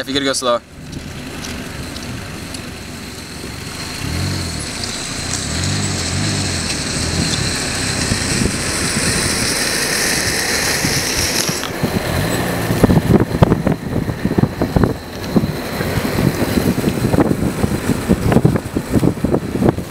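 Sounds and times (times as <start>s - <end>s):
car engine: 0.0s - 19.9s
tyres rolling on asphalt: 0.0s - 19.9s.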